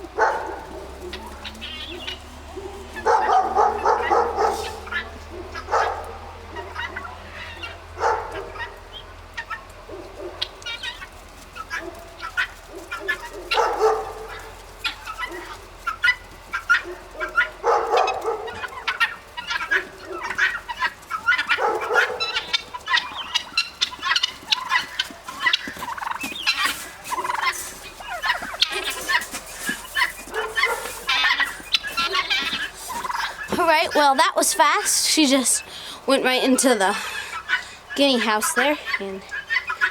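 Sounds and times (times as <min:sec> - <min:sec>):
guinea fowl calling: 0:00.0 - 0:34.5, 0:36.9 - 0:39.9.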